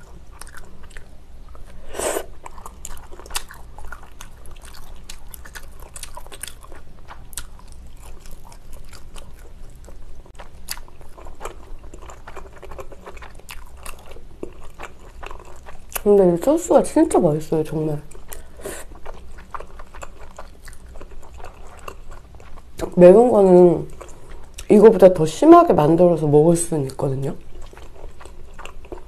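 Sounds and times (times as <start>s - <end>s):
wet chewing sounds: 0.0s - 16.2s, 18.0s - 23.0s, 23.9s - 24.8s, 27.4s - 29.0s.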